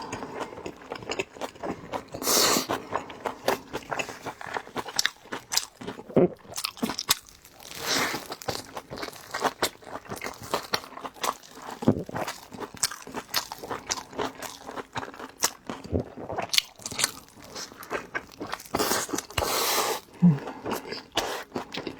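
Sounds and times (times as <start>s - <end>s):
crunchy chewing of dumplings: 0.0s - 21.9s.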